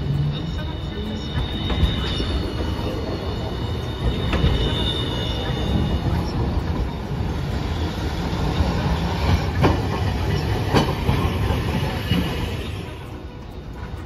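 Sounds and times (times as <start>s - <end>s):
steel wheels rumbling on rail: 0.0s - 14.0s
wheels clacking over rail joints: 0.0s - 14.0s.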